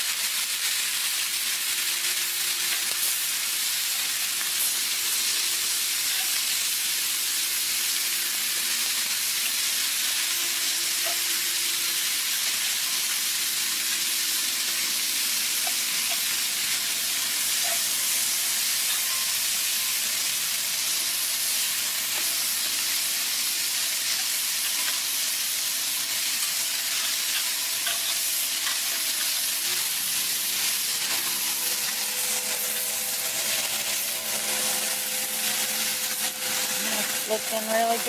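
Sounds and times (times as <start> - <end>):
food sizzling in a skillet: 0.0 - 38.0.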